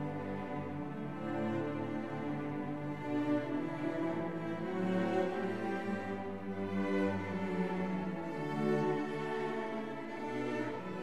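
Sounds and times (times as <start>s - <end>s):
cello ensemble playing: 0.0s - 11.0s.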